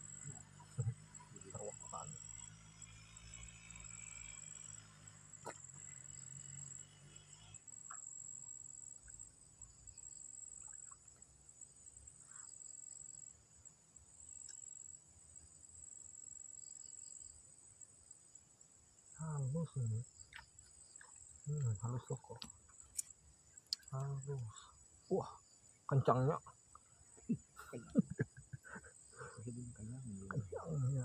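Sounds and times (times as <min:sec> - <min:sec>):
high-pitched insect chirring: 0:00.0 - 0:13.4, 0:19.2 - 0:31.0.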